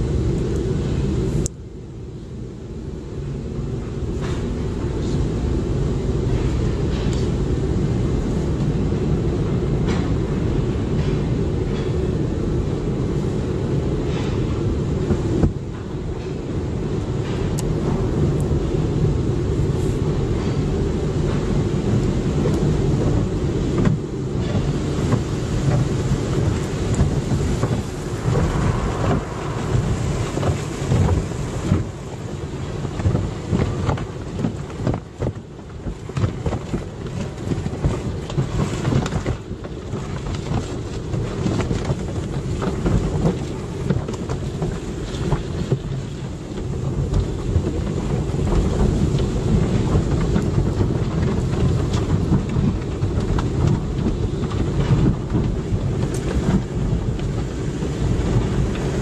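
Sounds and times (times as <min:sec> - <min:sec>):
water spraying on a car: 0:00.0 - 0:59.0.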